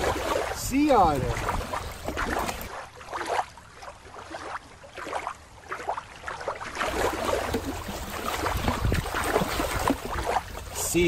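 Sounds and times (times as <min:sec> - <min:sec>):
water lapping on rocky shore: 0:00.0 - 0:11.0.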